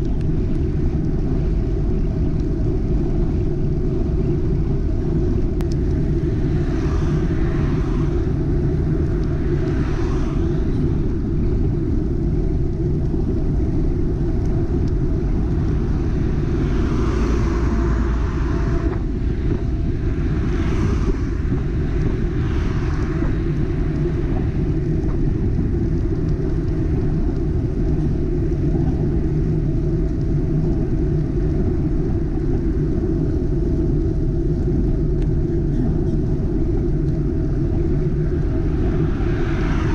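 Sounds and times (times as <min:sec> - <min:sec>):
wind rumble on microphone: 0:00.0 - 0:39.9
cars passing with tyres hissing: 0:02.6 - 0:39.9.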